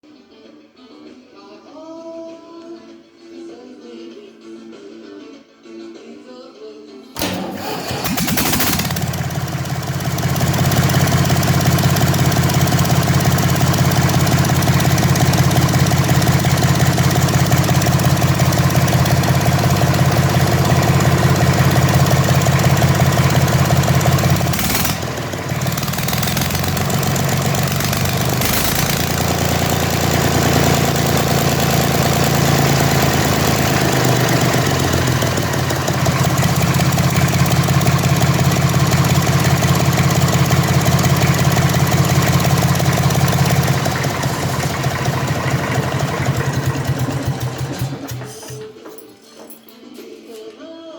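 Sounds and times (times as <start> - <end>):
diesel tractor engine running: 7.2 - 48.6.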